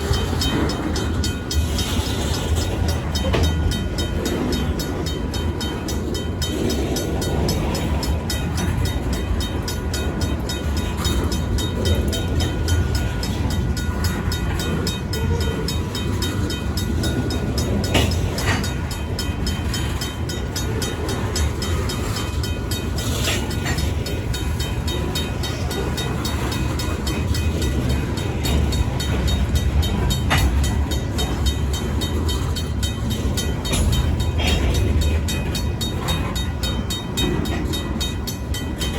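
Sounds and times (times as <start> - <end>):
crossing bell ringing: 0.0 - 38.9
freight train cars rumbling: 0.0 - 38.9.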